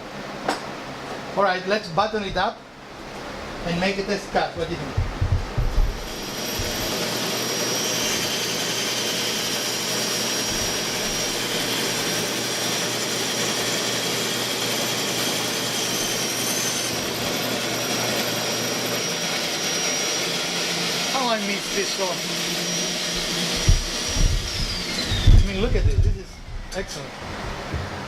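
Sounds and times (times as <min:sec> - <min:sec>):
band saw running: 0:04.6 - 0:28.0.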